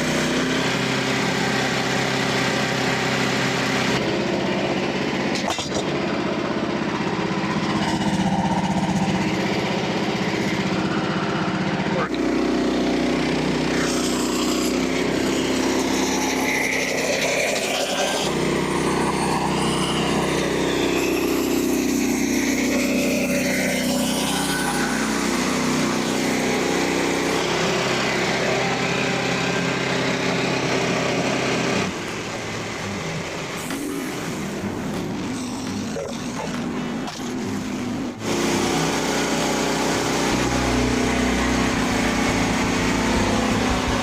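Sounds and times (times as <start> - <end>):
band saw cutting log: 0.0 - 44.0
small gasoline engine running: 0.0 - 44.0.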